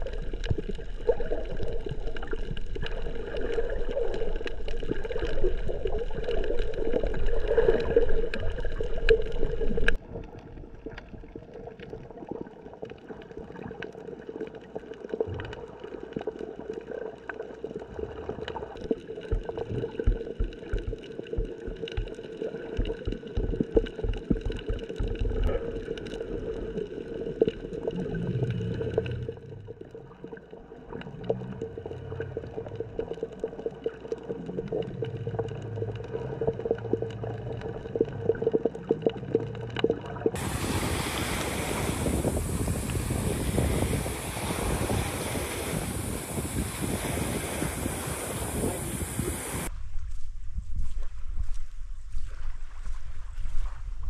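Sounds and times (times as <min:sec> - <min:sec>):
water gurgling and sloshing: 0:00.0 - 0:54.0.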